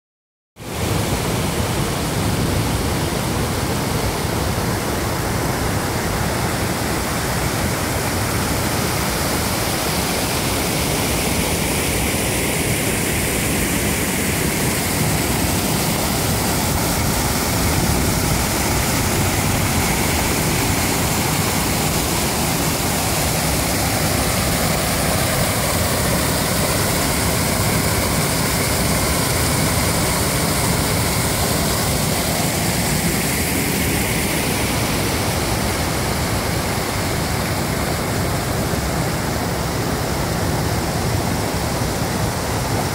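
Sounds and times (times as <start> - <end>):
water rushing over rocks: 0.6 - 42.9.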